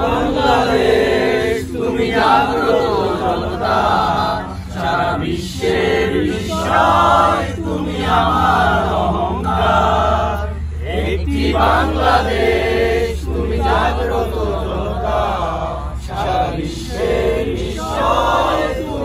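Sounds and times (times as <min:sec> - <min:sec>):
deep bass note: 0:00.0 - 0:16.3
choir-like chanted vocals: 0:00.0 - 0:19.0.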